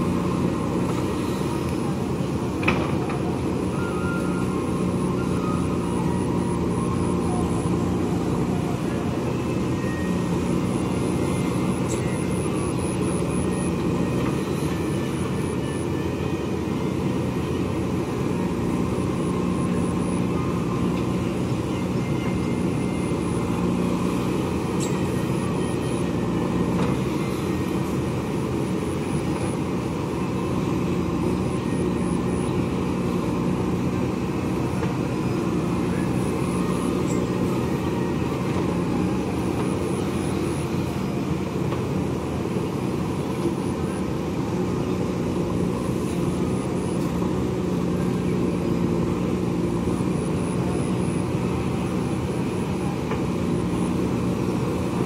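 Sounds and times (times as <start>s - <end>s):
diesel engine droning under load: 0.0s - 55.0s.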